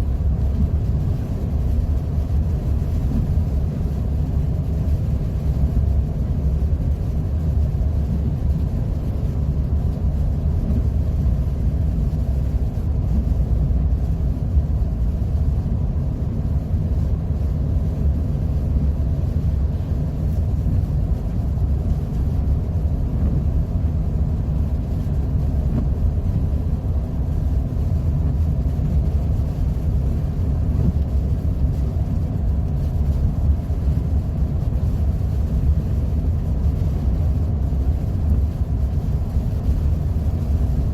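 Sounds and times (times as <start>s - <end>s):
car cabin road rumble: 0.0s - 40.9s.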